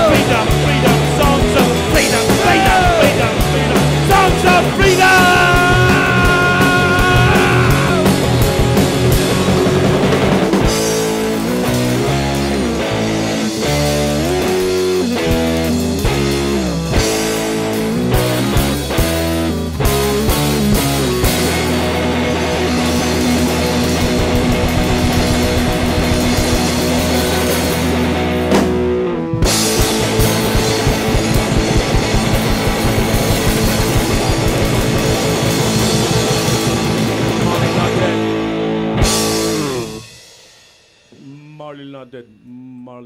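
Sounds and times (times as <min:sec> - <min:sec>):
guitar-driven rock music: 0:00.0 - 0:41.2.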